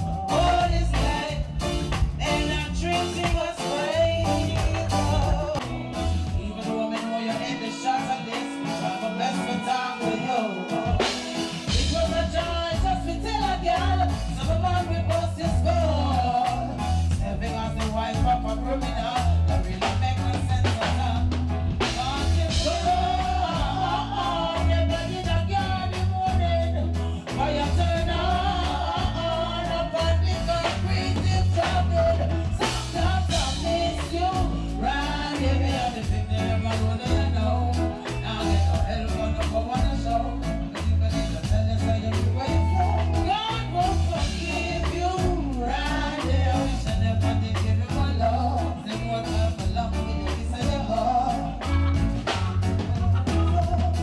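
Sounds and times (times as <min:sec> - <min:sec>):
heavy bass line: 0:00.0 - 0:54.0
reggae band playing: 0:00.0 - 0:54.0
woman singing: 0:00.0 - 0:54.0.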